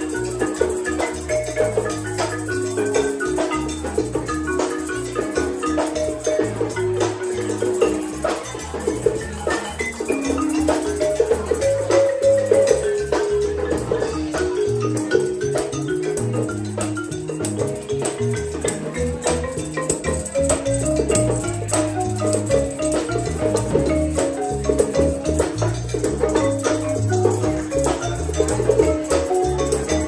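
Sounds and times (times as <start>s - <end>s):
bass line: 0.0s - 30.0s
drums: 0.0s - 30.0s
marimba melody: 0.0s - 30.0s
tambourine shaking: 0.0s - 30.0s.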